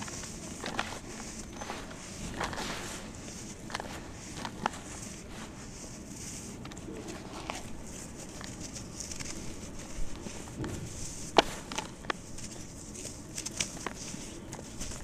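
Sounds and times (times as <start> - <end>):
hands crumbling damp cement: 0.0 - 15.0.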